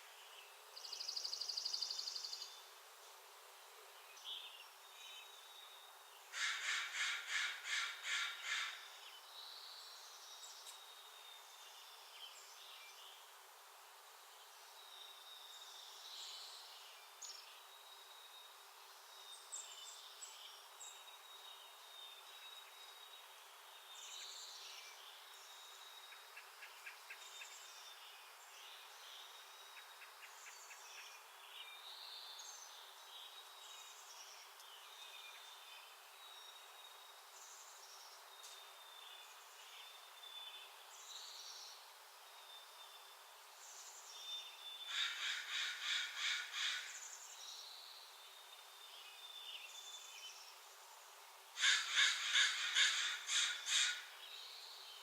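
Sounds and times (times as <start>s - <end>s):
songbirds calling: 3.8s - 55.0s.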